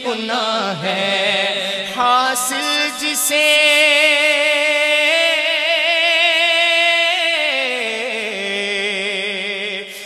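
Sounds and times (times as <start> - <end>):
person singing with vibrato: 0.0 - 10.0.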